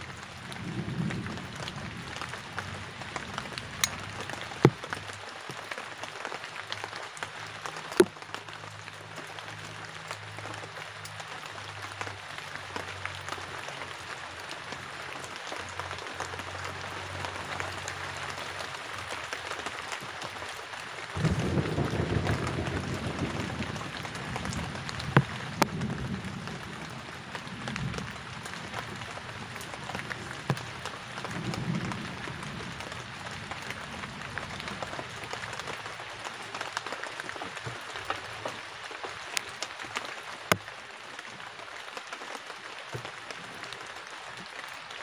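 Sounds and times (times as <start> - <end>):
heavy rain falling: 0.0 - 45.0
raindrops tapping: 0.0 - 45.0.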